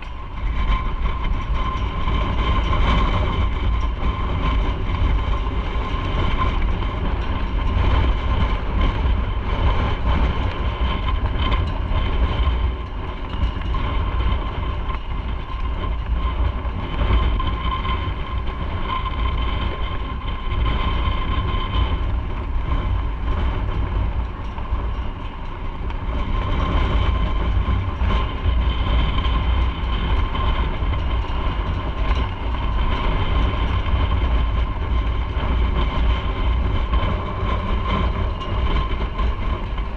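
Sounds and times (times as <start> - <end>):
steady whine: 0.0 - 39.9
wind rushing over microphone: 0.0 - 39.9.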